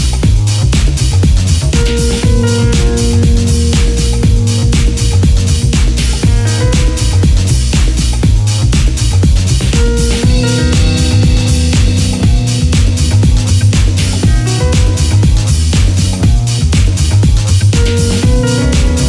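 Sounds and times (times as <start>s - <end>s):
deep house music: 0.0s - 19.0s.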